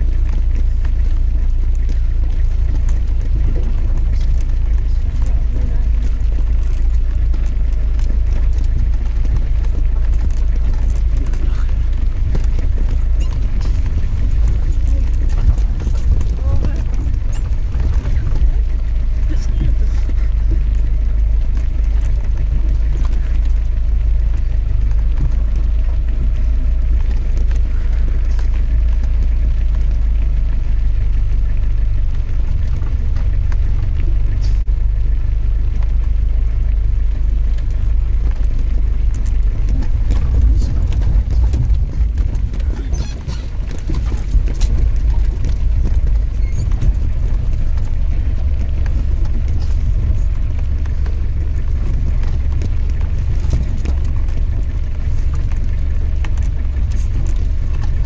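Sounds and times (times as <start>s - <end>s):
engine low rumble inside cabin: 0.0s - 58.0s.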